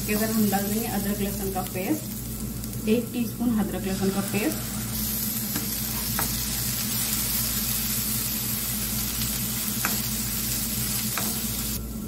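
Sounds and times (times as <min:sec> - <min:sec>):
onions sizzling in hot oil: 0:00.0 - 0:11.8.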